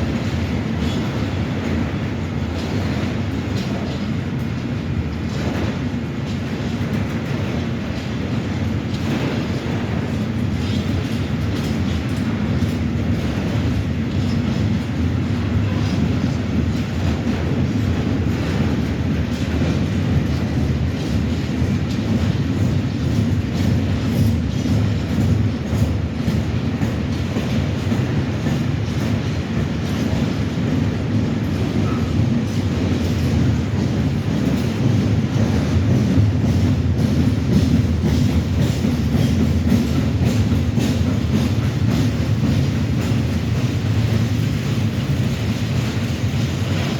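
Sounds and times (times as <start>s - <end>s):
freight train rumbling past: 0.0s - 46.9s
wheels clicking over rail joints: 0.0s - 46.9s.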